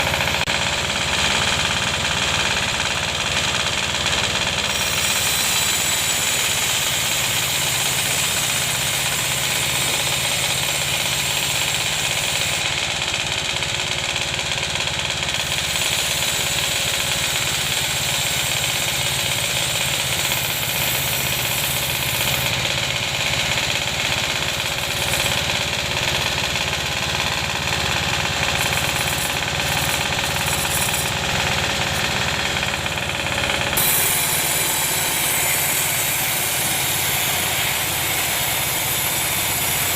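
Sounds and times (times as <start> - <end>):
bandsaw machine running: 0.0 - 39.9.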